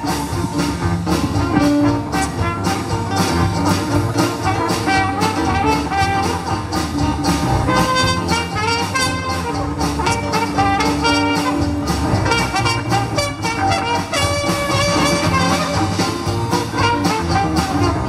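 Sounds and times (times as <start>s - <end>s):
banjo: 0.0s - 18.0s
clarinet melody: 0.0s - 18.0s
double bass: 0.0s - 18.0s
drum kit: 0.0s - 18.0s
trombone: 0.0s - 18.0s.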